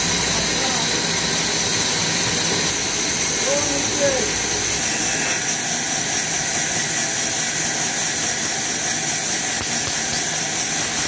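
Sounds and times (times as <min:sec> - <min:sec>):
band sawmill running: 0:00.0 - 0:11.0.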